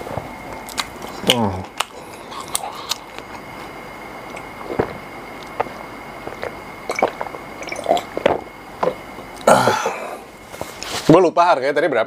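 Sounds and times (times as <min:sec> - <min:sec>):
faint high-pitched whine: 0:00.0 - 0:12.0
person chewing food: 0:00.5 - 0:10.9.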